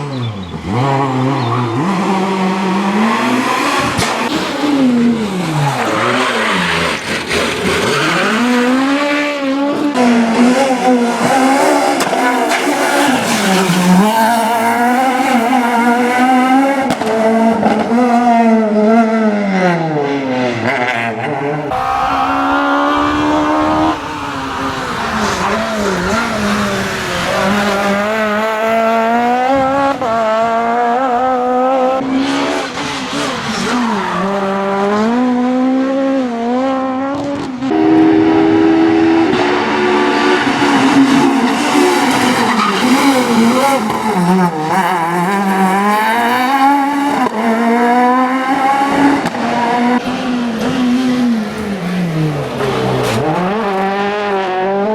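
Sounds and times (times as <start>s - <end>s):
rally car engines at full throttle: 0.0s - 54.9s.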